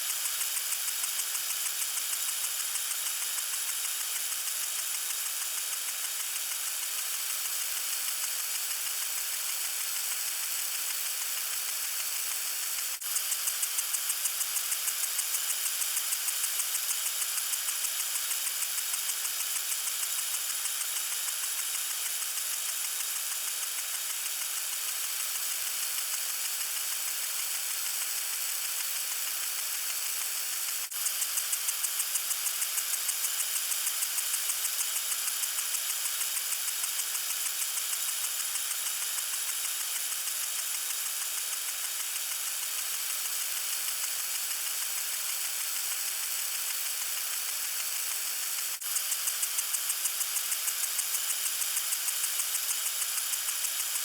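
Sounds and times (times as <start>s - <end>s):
water sprinkler spraying: 0.0s - 54.0s.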